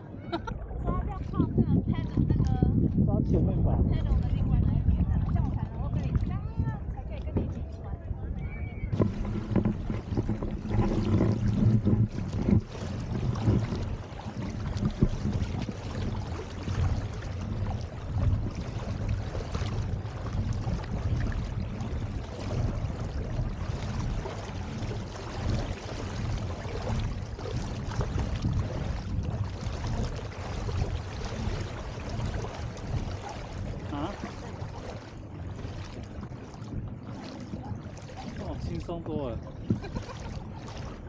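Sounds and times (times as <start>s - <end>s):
water splashing along hull: 0.0s - 41.0s
wind rumbling on microphone: 0.0s - 41.0s.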